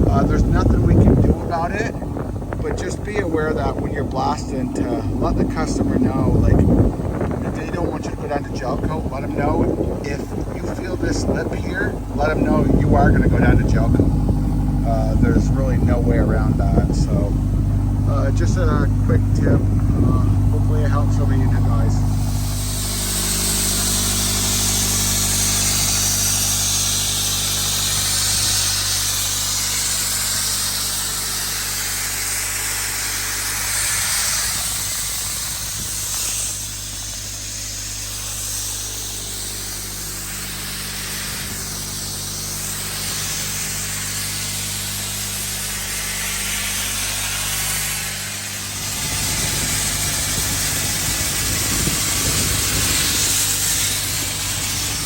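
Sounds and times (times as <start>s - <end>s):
blast nozzle hissing: 0.0s - 55.0s
compressor engine hum: 0.0s - 55.0s.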